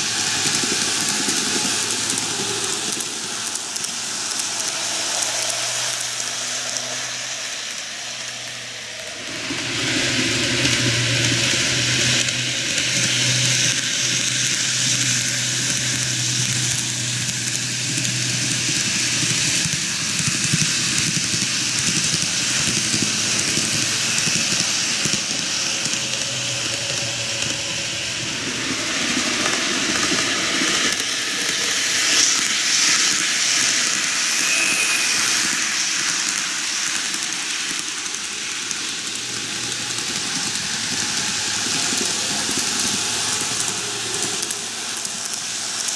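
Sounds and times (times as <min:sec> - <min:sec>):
model train wheels hissing on rails: 0:00.0 - 0:45.9.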